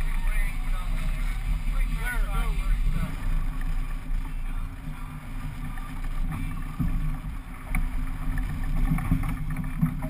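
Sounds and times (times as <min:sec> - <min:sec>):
outboard motors rumbling: 0:00.0 - 0:10.0
water noise: 0:00.0 - 0:10.0
wind: 0:00.0 - 0:10.0.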